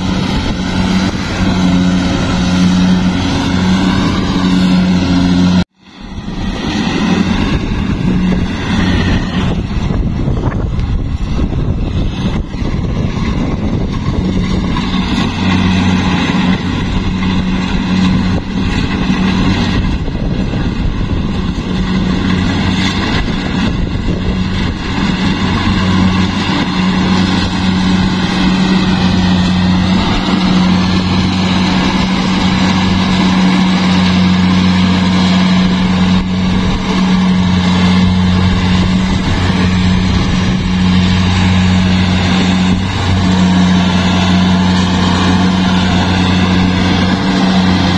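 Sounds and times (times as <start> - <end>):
combine harvester engine drone: 0.0 - 47.9
machinery whining: 0.0 - 47.9.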